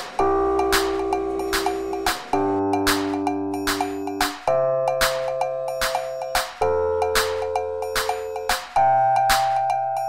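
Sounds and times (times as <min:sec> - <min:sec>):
music with chords and beat: 0:00.0 - 0:10.0.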